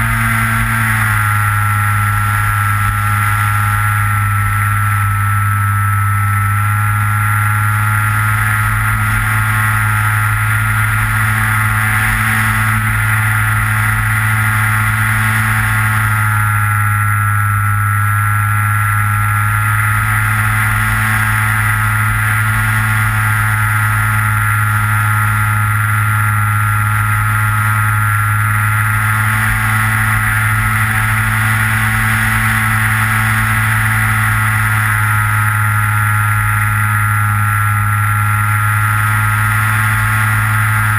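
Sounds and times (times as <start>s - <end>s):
electric model plane motor whine: 0.0s - 40.9s.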